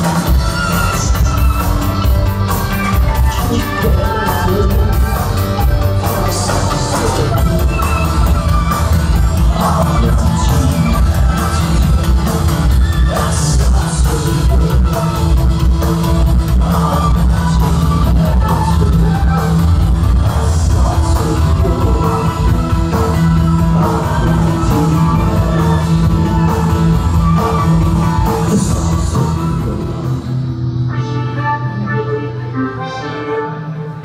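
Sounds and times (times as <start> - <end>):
drums with steady beat: 0.0 - 30.1
person singing: 0.0 - 34.0.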